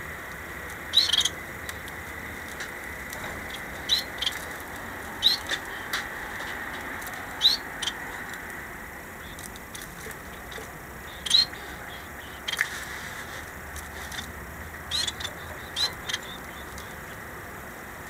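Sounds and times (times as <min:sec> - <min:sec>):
finches chirping: 0:00.6 - 0:08.5, 0:09.1 - 0:13.2, 0:13.9 - 0:17.7.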